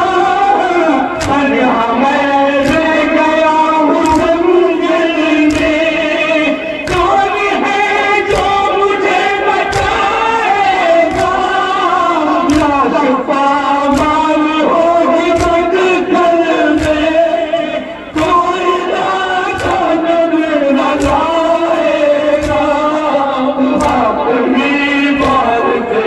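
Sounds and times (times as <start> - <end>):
crowd joining in chanting: 0.0 - 26.0
men chanting into microphones: 0.0 - 26.0.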